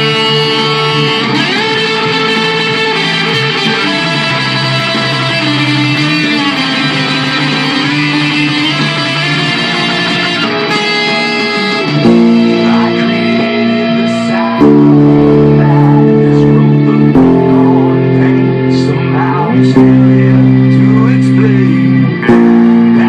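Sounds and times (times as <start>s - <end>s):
guitar playing loud chords: 0.0s - 23.0s.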